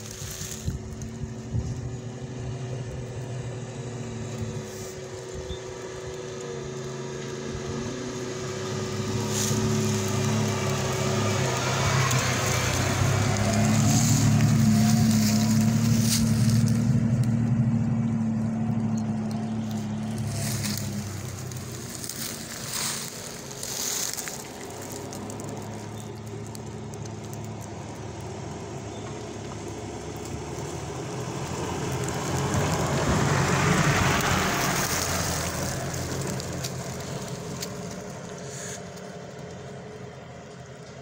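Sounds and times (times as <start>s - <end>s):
tyres crunching over leaves: 0.0s - 40.7s
off-road engines running: 0.0s - 41.0s.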